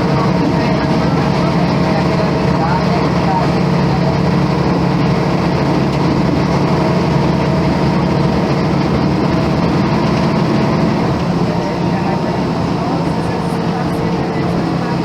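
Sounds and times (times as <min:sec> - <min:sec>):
diesel bus engine droning: 0:00.0 - 0:15.0.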